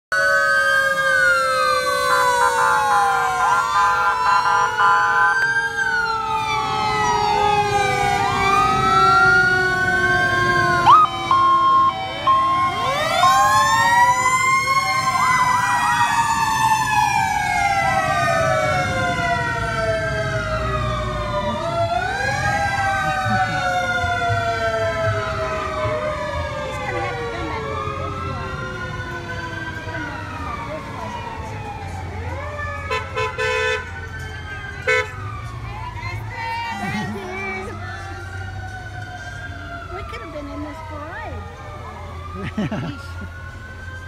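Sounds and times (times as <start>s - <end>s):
on-off siren blast: 0.1s - 36.1s
fire truck sirens wailing: 0.1s - 44.0s
truck engines running: 0.2s - 44.0s.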